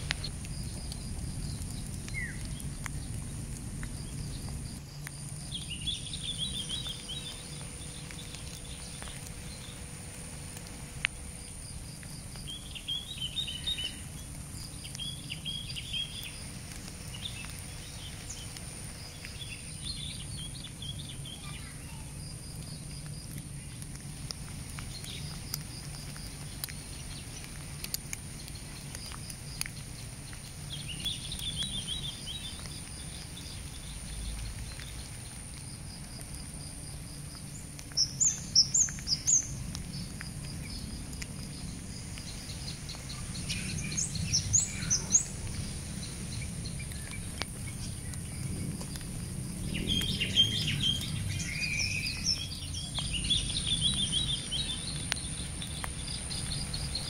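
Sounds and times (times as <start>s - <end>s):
faint high insect tone: 0.0s - 57.0s
small birds chirping: 0.0s - 57.0s
steady low background noise: 0.0s - 57.0s.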